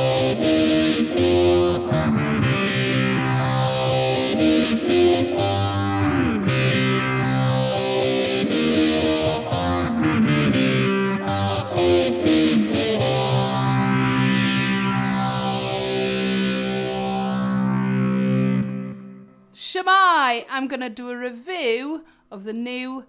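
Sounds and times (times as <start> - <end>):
distorted electric guitar with effects: 0.0 - 19.5.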